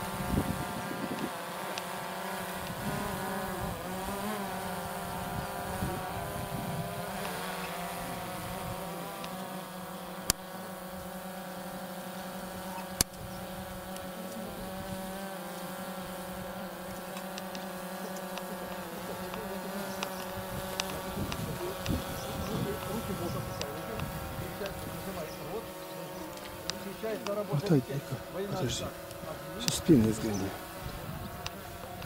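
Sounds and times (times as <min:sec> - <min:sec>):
drone propellers buzzing: 0:00.0 - 0:32.0.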